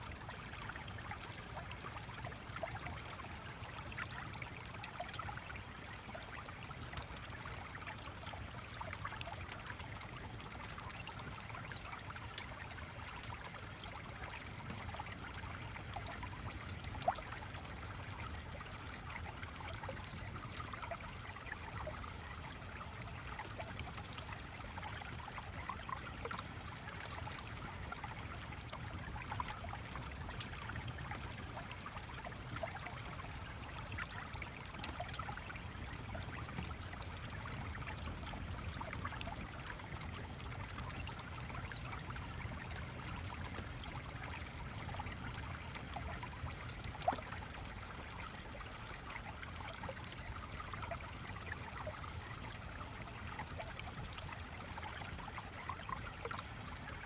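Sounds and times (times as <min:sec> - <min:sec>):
small stream running: 0:00.0 - 0:57.0.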